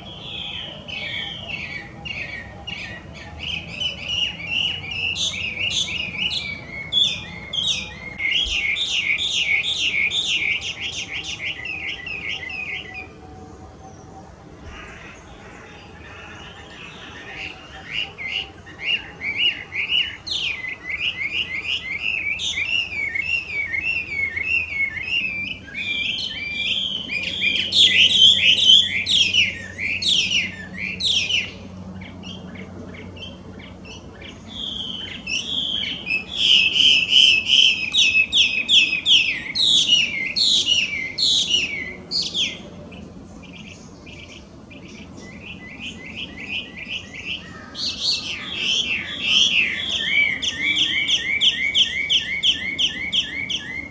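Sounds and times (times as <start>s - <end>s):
bird singing: 0.0s - 53.9s.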